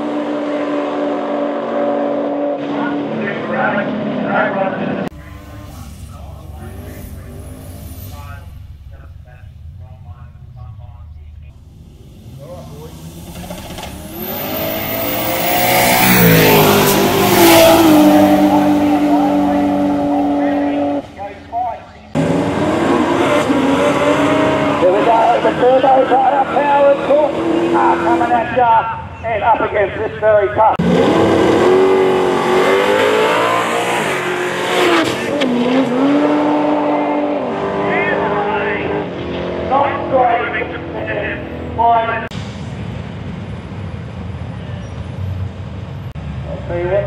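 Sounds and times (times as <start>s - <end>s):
drag car engines accelerating: 0.0s - 47.0s.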